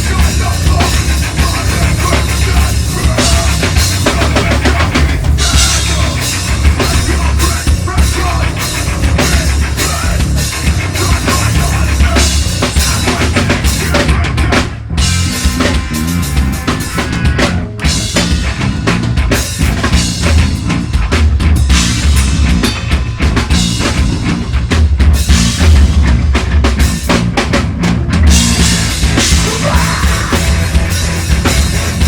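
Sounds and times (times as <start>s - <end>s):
heavy metal band playing: 0.0s - 32.0s.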